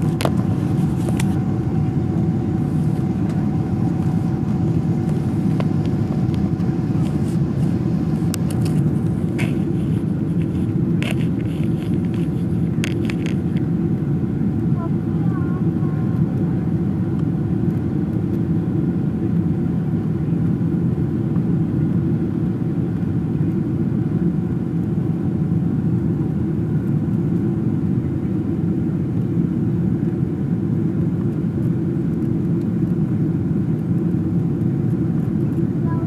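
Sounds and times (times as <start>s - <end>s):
airliner cabin rumble: 0.0s - 36.0s
faint steady whine: 0.0s - 36.0s.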